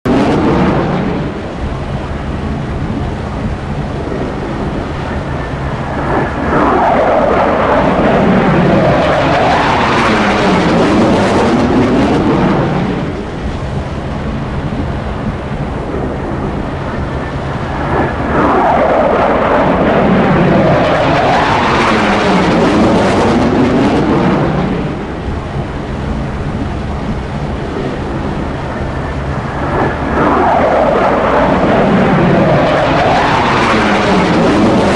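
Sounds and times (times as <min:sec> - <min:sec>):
fighter jets roaring past: 0:00.1 - 0:34.9.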